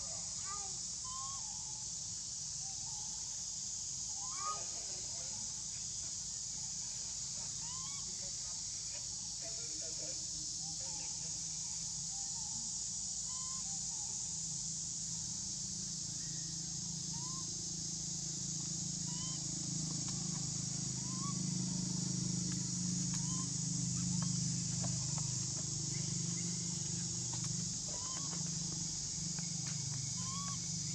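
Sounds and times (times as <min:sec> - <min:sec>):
high insect drone: 0:00.0 - 0:30.9.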